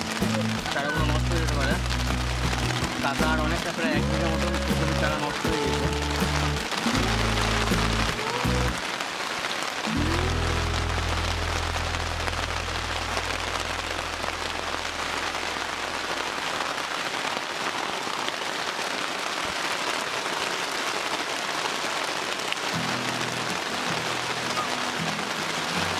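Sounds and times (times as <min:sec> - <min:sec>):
heavy rain on plastic sheeting: 0:00.0 - 0:25.9.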